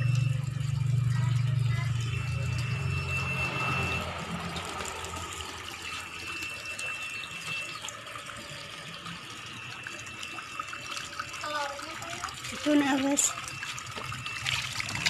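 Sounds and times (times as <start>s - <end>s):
tap water pouring into tub: 0.0s - 15.0s.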